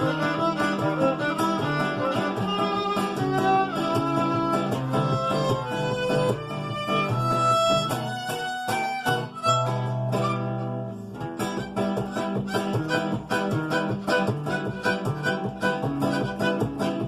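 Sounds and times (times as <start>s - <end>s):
bowed violin melody: 0.0s - 17.0s
plucked acoustic guitar: 0.0s - 17.0s.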